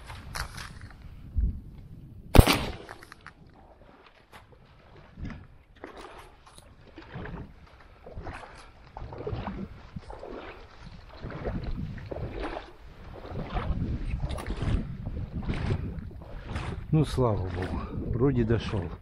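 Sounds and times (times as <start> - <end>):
person wading through water: 3.4 - 19.0.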